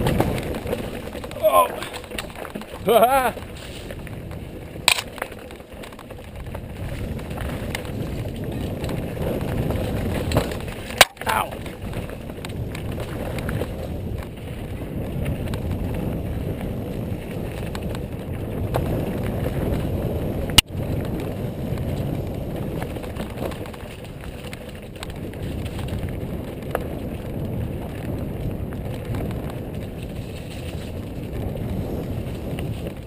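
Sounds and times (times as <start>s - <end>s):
bike rattling: 0.0s - 33.0s
bike tyres rumbling on dirt: 0.0s - 33.0s.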